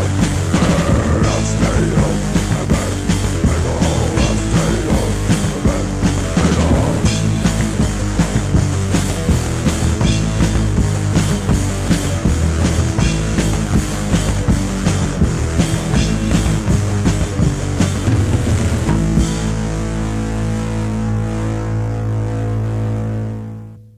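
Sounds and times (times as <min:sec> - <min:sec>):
fast drumming: 0:00.0 - 0:19.8
distorted guitars: 0:00.0 - 0:23.9.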